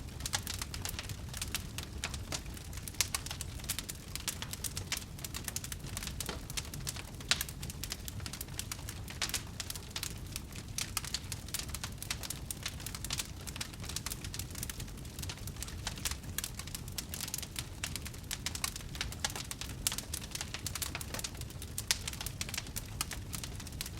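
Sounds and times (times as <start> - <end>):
campfire crackling: 0.0 - 23.9
fire pops and snaps: 0.0 - 23.9.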